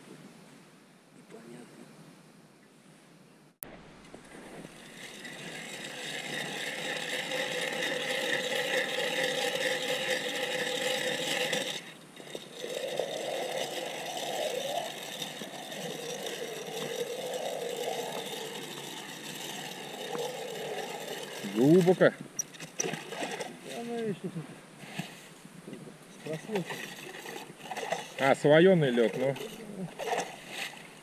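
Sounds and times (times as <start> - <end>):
ice auger grinding into ice: 4.2 - 24.1, 24.8 - 25.3, 26.2 - 31.0.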